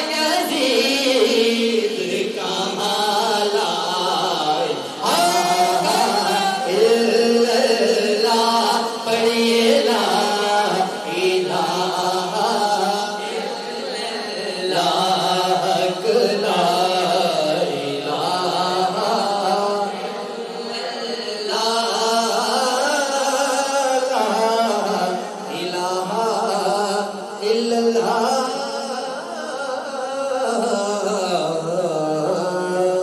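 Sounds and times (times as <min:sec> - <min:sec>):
man chanting devotional poem: 0:00.0 - 0:33.0.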